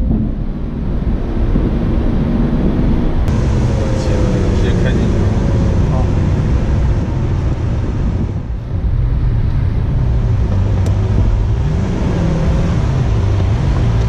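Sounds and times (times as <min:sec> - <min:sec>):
car engine running: 0:00.0 - 0:14.0
road noise: 0:00.0 - 0:14.0
wind noise: 0:00.0 - 0:14.0.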